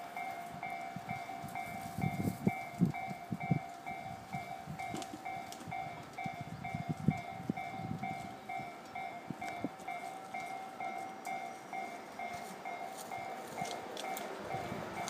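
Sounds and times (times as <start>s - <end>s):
level crossing bell clanging: 0.0s - 14.8s.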